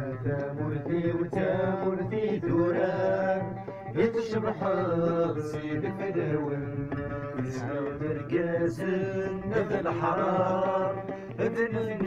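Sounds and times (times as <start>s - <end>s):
chanted vocal melody: 0.0s - 12.0s
low musical accompaniment: 0.0s - 12.0s.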